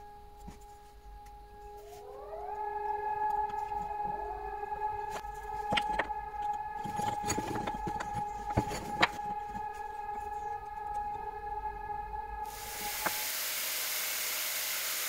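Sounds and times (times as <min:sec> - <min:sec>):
warning siren: 0:00.0 - 0:14.9.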